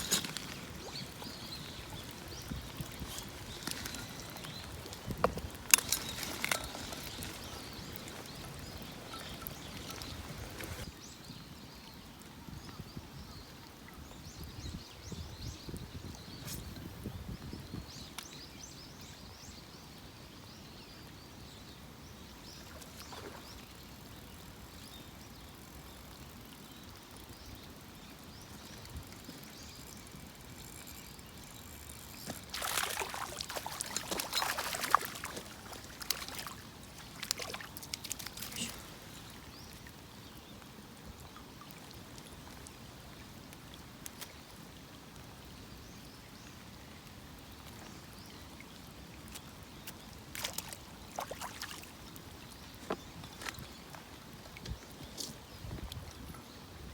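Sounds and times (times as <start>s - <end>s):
water splashing and crackling: 0.0s - 14.4s, 22.2s - 56.9s
rain on a pond: 0.0s - 14.9s, 17.9s - 56.9s.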